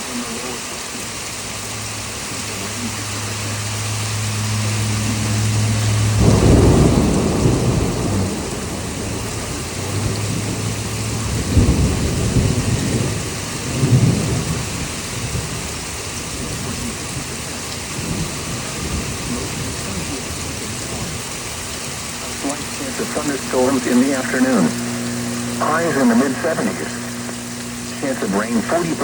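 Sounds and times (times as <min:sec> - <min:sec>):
heavy rain hiss: 0:00.0 - 0:29.0
thunder rumbling: 0:01.4 - 0:29.0.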